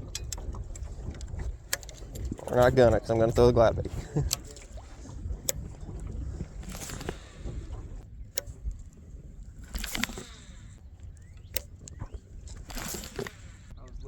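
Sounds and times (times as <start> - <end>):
low rumble of wind and water: 0.0 - 14.0
sharp clicks and knocks: 0.0 - 14.0.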